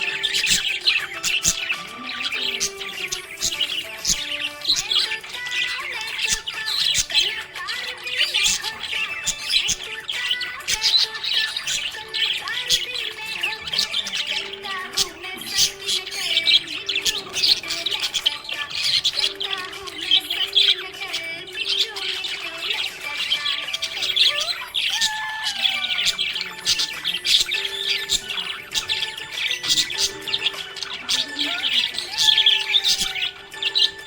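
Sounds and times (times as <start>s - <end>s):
budgerigars chirping and squawking: 0.0s - 34.0s.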